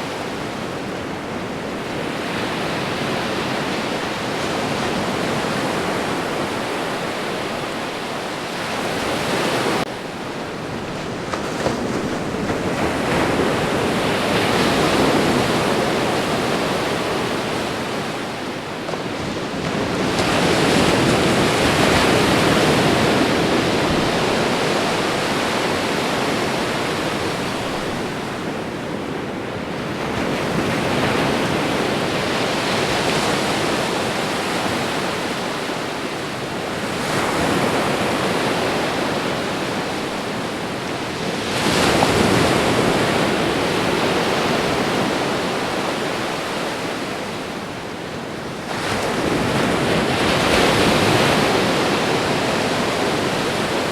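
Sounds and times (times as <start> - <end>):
ocean waves crashing: 0.0 - 53.9.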